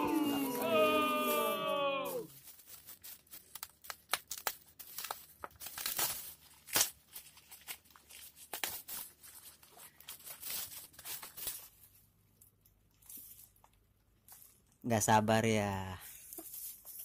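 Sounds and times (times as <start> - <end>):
bubble wrap crinkling: 0.0 - 14.8, 16.1 - 17.0.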